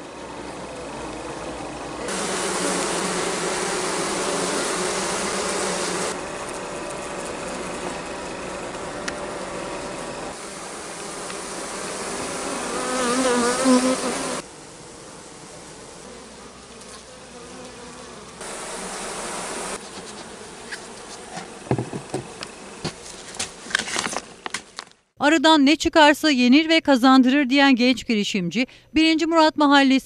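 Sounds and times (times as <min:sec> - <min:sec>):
honeybees buzzing: 0:00.0 - 0:24.8.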